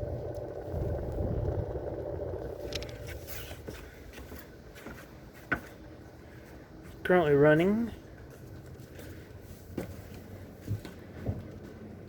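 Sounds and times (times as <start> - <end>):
clothes dryer rumbling: 0.0 - 12.0.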